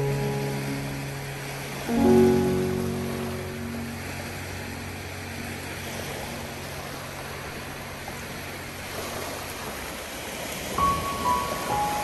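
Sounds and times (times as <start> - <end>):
surf washing onto stony shore: 0.0 - 12.0.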